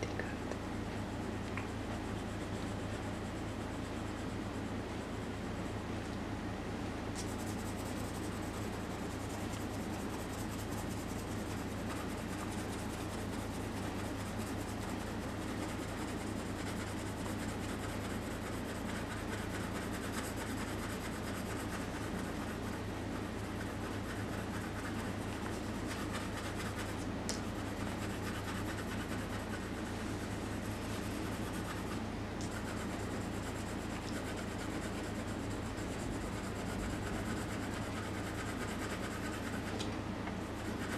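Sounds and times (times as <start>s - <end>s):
pencil scratching on paper: 7.2s - 39.7s, 40.5s - 40.9s.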